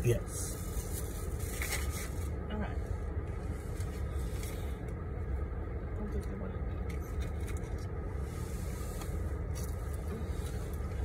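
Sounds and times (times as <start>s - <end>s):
low rumble inside car cabin: 0.0s - 11.0s.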